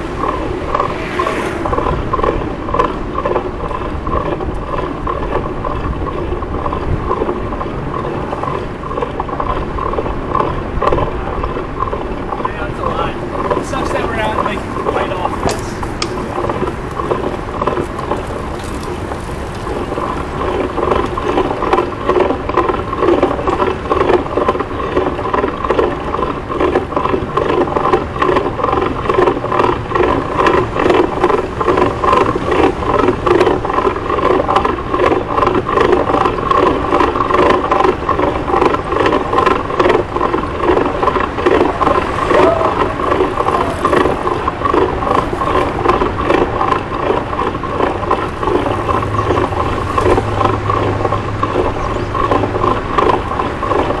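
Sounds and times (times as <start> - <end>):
bike rattling over pavement: 0.0 - 54.0.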